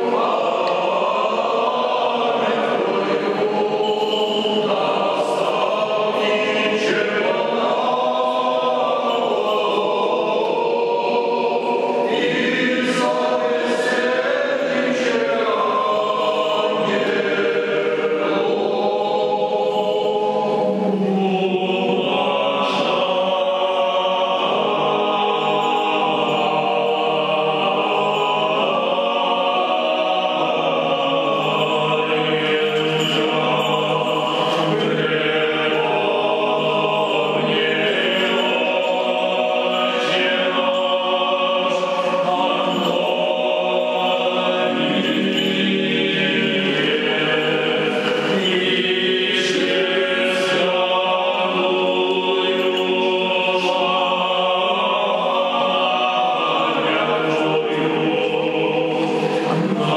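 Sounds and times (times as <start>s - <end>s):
unaccompanied choir chanting: 0.0s - 59.9s.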